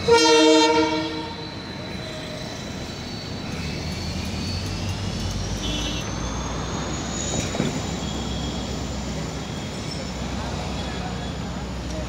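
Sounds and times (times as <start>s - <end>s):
train coaches rumbling past: 0.0s - 12.0s.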